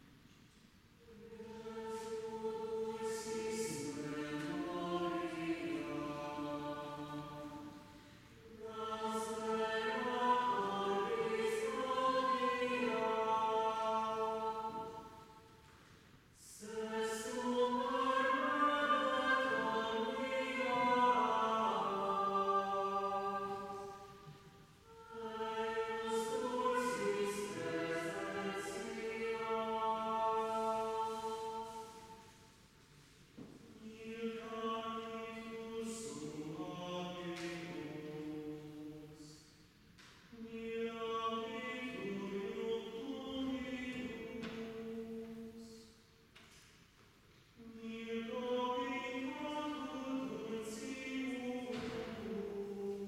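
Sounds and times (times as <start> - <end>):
choir singing a cappella: 1.0 - 46.2, 47.5 - 53.0.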